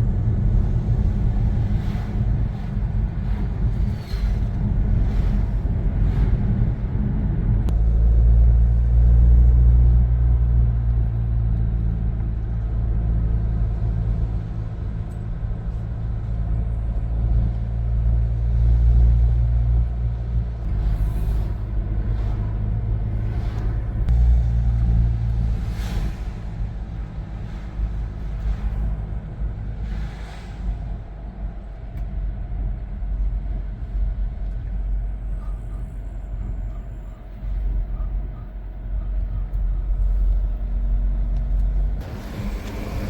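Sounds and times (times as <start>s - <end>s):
car engine and tyre rumble: 0.0s - 43.0s.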